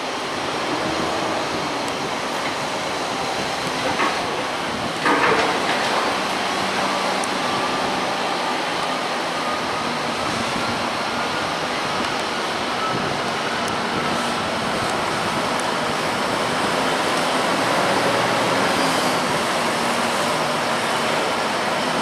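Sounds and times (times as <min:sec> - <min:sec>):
tractor diesel engines running: 0:00.0 - 0:22.0.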